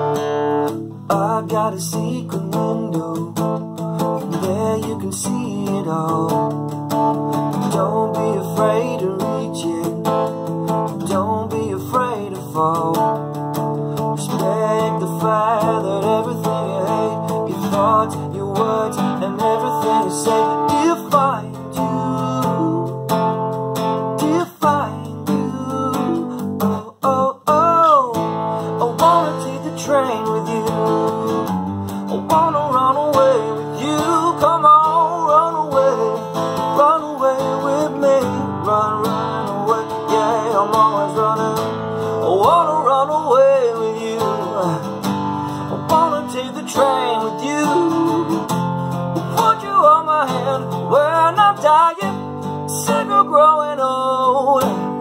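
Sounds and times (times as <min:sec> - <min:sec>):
strummed acoustic guitar: 0:00.0 - 0:55.0
man singing: 0:00.7 - 0:55.0.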